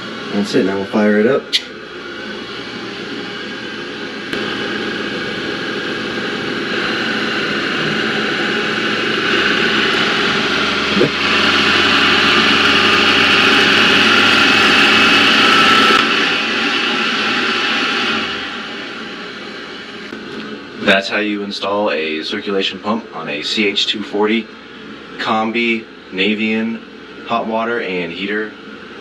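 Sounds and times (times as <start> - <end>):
boiler rushing hum: 0.0 - 29.0.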